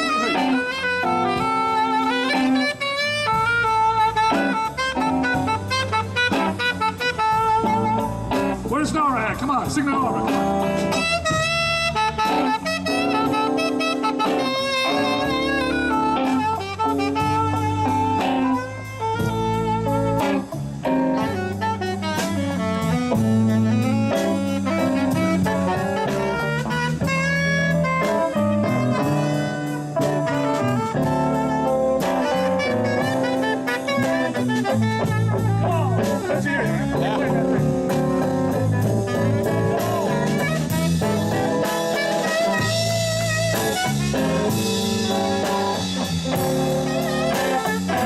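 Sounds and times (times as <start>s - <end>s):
blues band playing: 0.0s - 48.0s
saxophone lead melody: 0.0s - 48.0s.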